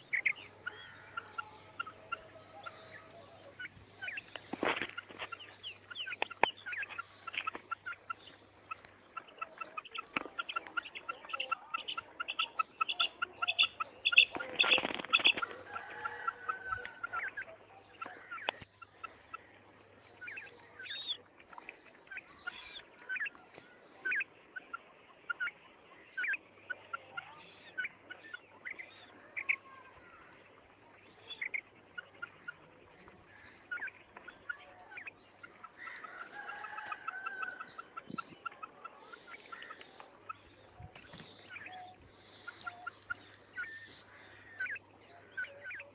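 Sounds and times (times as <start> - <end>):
quail calling: 0.0 - 45.9.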